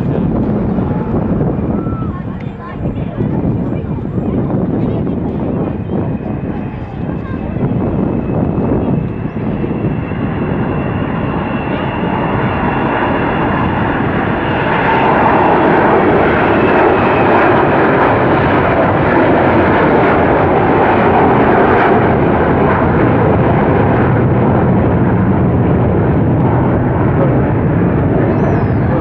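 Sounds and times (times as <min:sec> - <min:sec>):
jet aircraft roar: 0:00.0 - 0:29.0.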